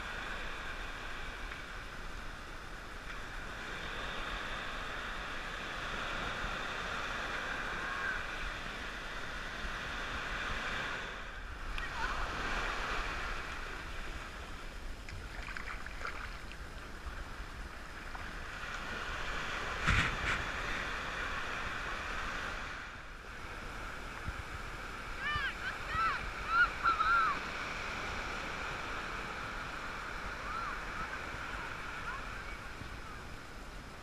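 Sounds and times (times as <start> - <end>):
surf washing onto beach: 0.0 - 34.0.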